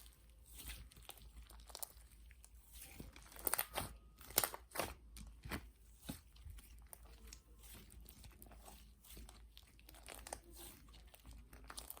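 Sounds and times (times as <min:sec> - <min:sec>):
slime crackling and popping: 0:00.0 - 0:12.0.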